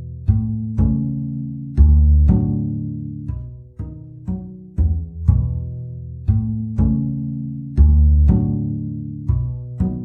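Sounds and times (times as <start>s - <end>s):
plucked low string notes: 0.0s - 10.0s.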